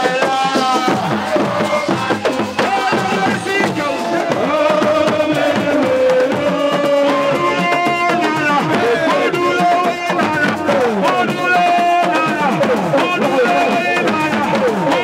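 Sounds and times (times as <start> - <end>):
hand drums playing: 0.0 - 15.0
person singing: 0.0 - 15.0.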